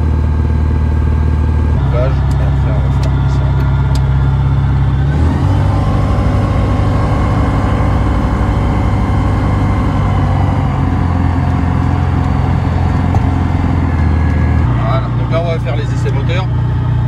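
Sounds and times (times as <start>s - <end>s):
aircraft engine and propeller: 0.0s - 17.0s.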